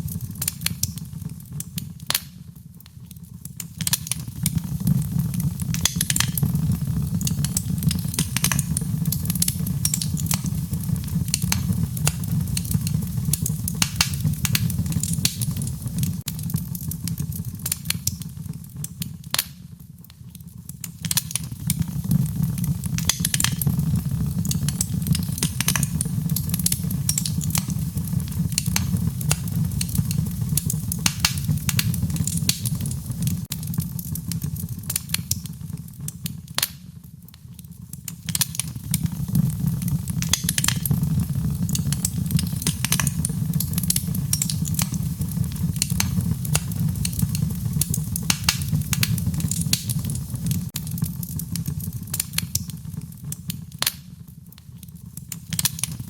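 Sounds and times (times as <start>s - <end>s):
burning wood crackling and popping: 0.0s - 56.0s
fire flames rumbling: 0.0s - 56.0s.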